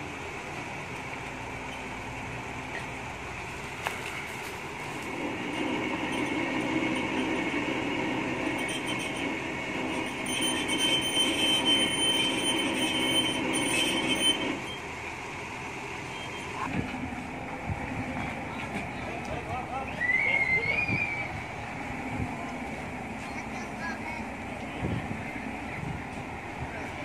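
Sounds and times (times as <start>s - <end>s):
truck engine and hydraulics running: 0.0s - 27.0s
high whine: 4.0s - 27.0s.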